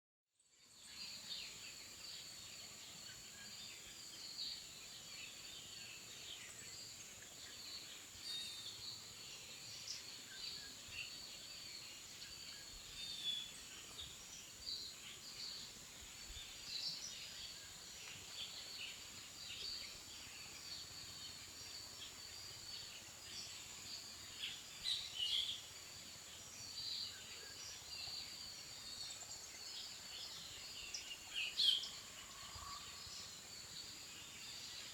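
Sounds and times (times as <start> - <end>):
small birds chirping: 0.6 - 34.9.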